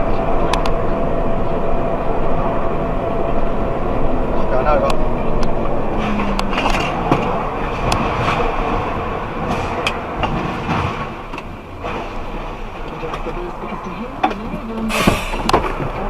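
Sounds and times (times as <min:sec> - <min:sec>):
car running rumble: 0:00.0 - 0:16.0.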